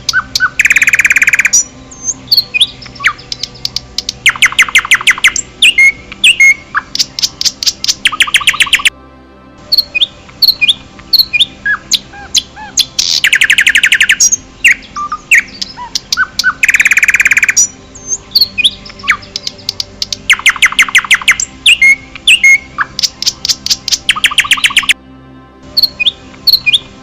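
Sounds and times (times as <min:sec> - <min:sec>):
fast loud bird trills: 0:00.0 - 0:03.6, 0:04.2 - 0:08.9, 0:09.7 - 0:25.0
birds chirping and whistling: 0:00.0 - 0:08.9, 0:09.7 - 0:25.0, 0:25.7 - 0:27.0.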